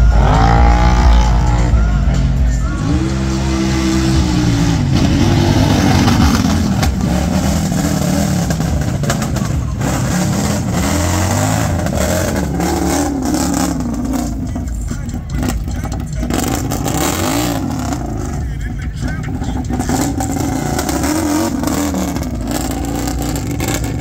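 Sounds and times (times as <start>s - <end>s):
atv engine revving hard: 0.0s - 1.8s, 2.8s - 14.5s, 15.4s - 18.5s, 19.1s - 24.0s.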